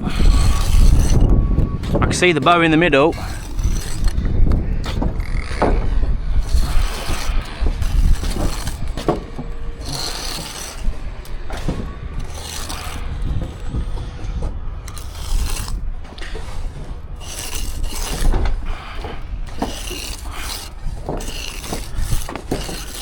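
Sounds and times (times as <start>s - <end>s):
trowel scraping mortar: 0.0s - 23.0s
wind rumble on microphone: 0.0s - 23.0s.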